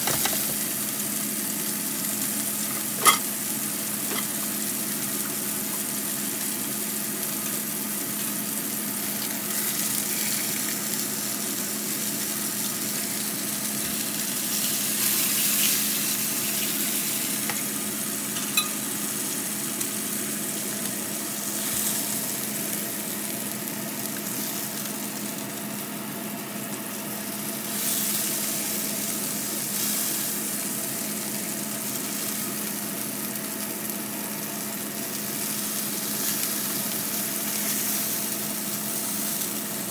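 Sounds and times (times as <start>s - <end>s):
steak sizzling in a frying pan: 0.0s - 39.9s.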